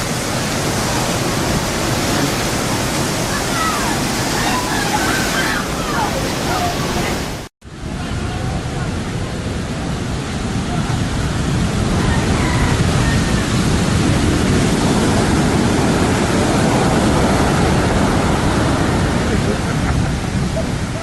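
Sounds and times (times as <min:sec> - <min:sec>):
heavy surf and rushing seawater: 0:00.0 - 0:21.0.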